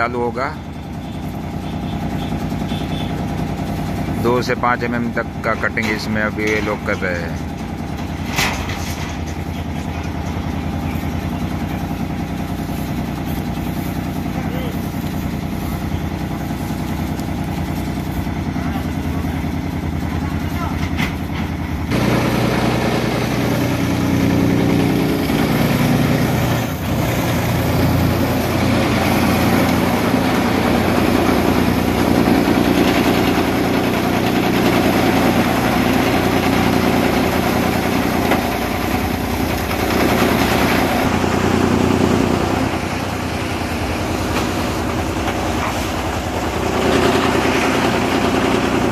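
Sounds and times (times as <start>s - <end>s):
grass chipping machine drone: 0.0s - 48.9s.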